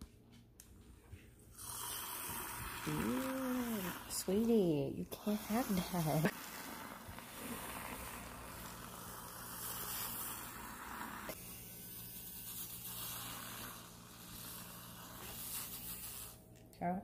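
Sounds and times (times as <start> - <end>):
milk frother whirring: 1.5 - 16.4
hiss: 1.6 - 4.3, 5.2 - 16.4.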